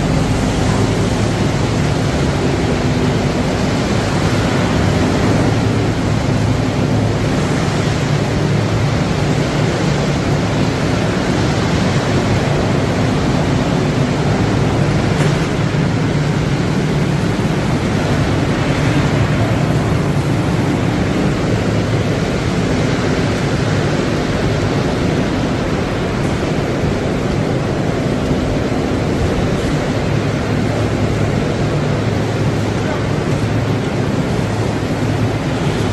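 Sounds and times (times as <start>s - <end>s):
machinery rushing noise: 0.0s - 35.9s.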